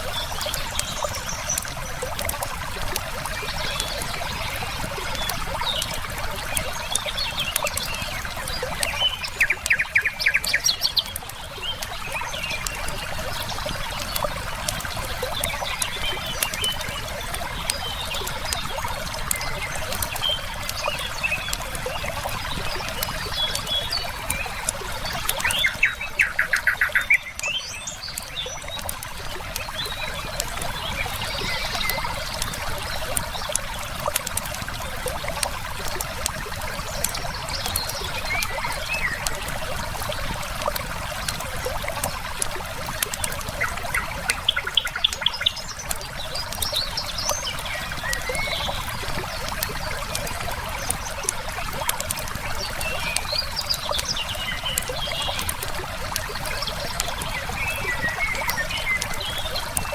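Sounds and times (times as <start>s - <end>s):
wood fire crackling: 0.0s - 10.0s, 10.9s - 59.9s
birds chirping: 0.0s - 59.9s
river flowing: 0.0s - 59.9s.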